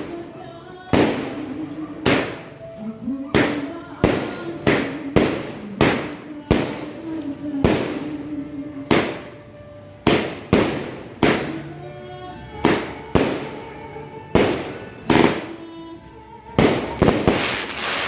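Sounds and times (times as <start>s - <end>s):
firework cake shots echoing: 0.0s - 2.7s, 3.3s - 11.8s, 12.6s - 15.7s, 16.6s - 18.0s.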